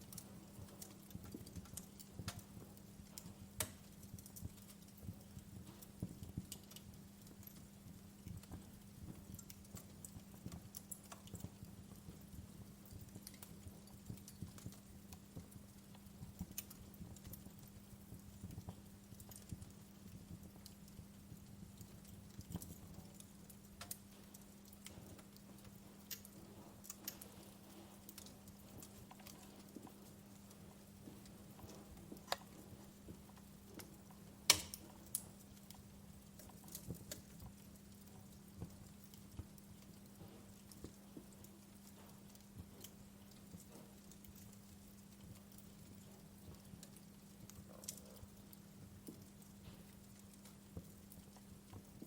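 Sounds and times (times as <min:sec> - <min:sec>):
faint steady hum: 0:00.0 - 0:52.0
wood fire crackling: 0:00.0 - 0:52.0.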